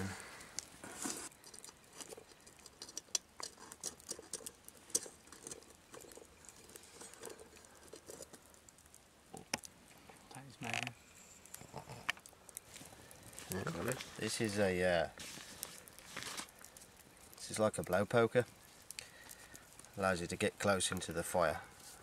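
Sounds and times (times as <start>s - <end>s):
campfire embers crackling: 0.0s - 22.0s.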